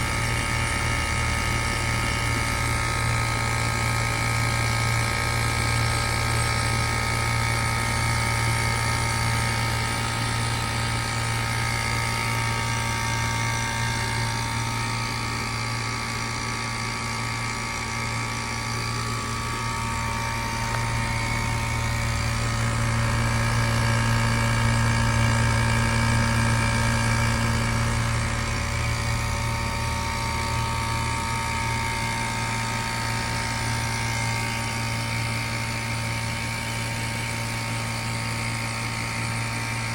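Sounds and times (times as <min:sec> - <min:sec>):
fan rushing: 0:00.0 - 0:38.2
compressor humming with whining tones: 0:00.0 - 0:39.9.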